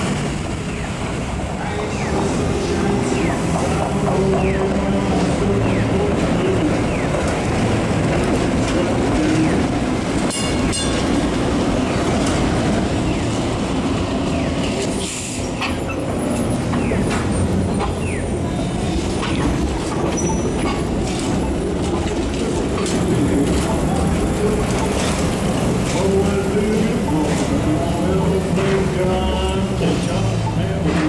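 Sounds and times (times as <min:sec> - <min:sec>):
streetcar clatter: 0:00.0 - 0:31.0
streetcar wheels rumbling on rail: 0:00.0 - 0:31.0.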